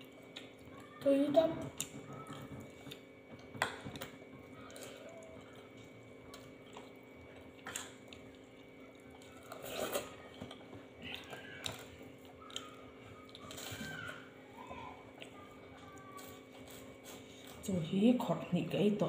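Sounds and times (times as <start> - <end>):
person chewing: 0.0 - 1.0, 1.6 - 17.7
faint steady hum: 0.0 - 19.0.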